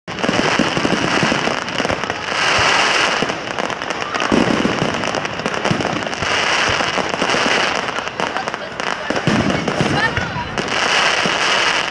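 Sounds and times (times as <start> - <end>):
fireworks crackling and popping: 0.0 - 11.9.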